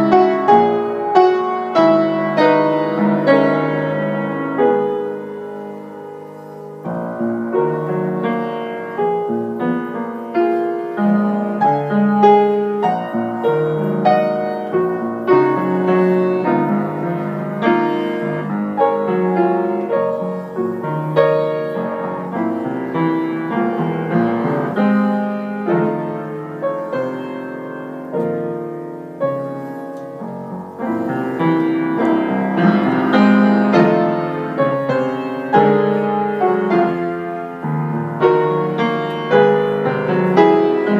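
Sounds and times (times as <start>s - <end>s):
solo piano piece: 0.0s - 40.9s.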